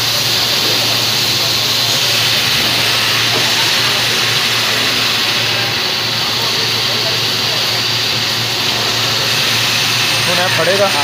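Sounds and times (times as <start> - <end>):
factory machinery hiss: 0.0 - 11.0
low machinery hum: 0.0 - 11.0.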